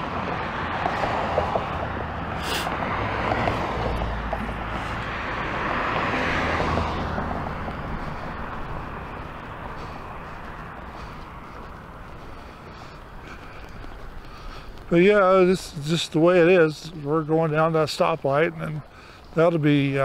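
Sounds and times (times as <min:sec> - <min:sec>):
vehicle passing: 0:00.0 - 0:20.0.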